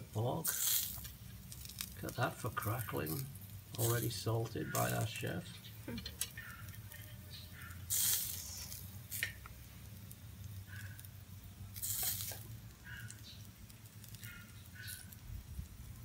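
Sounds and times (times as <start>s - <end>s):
meat sizzling on a barbecue: 0.0s - 16.0s.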